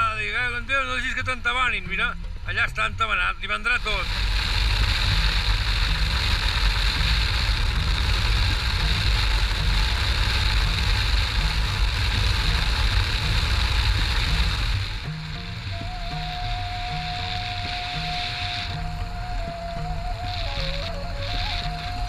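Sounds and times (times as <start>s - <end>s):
motorcycle engine running: 3.8s - 22.0s
steady tone: 3.8s - 22.0s
wind rush on microphone: 3.8s - 22.0s.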